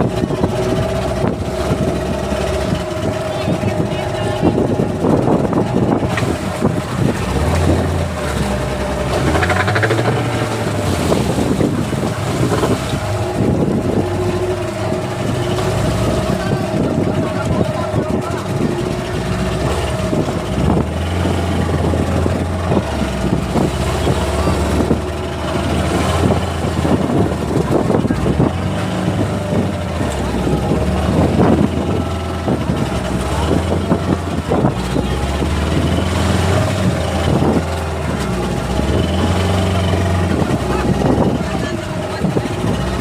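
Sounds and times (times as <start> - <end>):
engine humming: 0.0 - 43.0
faint voices: 0.0 - 43.0.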